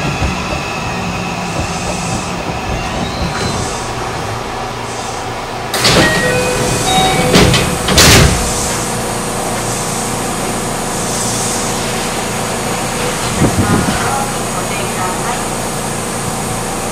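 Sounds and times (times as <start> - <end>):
train doors clunking open: 0.0 - 15.1
train hum: 0.0 - 16.9.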